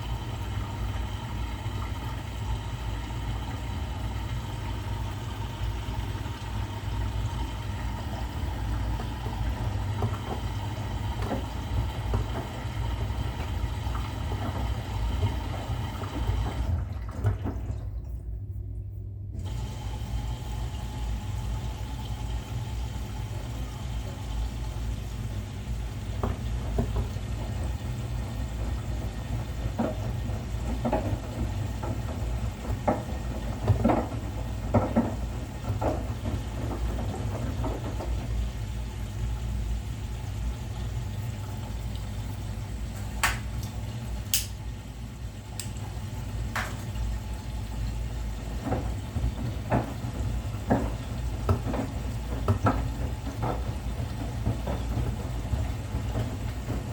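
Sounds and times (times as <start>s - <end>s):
water sloshing in drum: 0.0s - 18.6s, 19.4s - 56.9s
washing machine hum: 0.0s - 56.9s.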